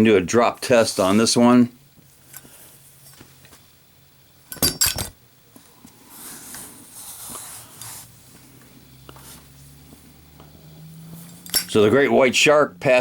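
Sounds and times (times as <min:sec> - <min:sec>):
soft hissy rustle: 0:00.0 - 0:04.2, 0:05.4 - 0:12.7.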